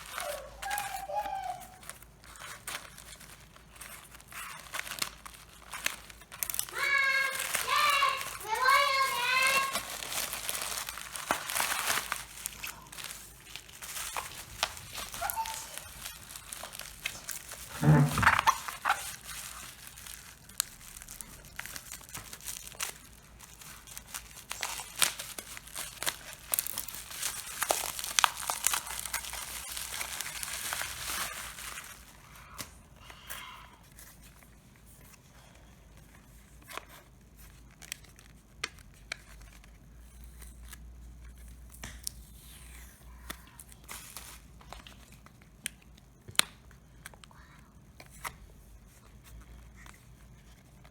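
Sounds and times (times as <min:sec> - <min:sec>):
packaging crinkling and rustling: 0:00.0 - 0:32.9, 0:33.8 - 0:47.2.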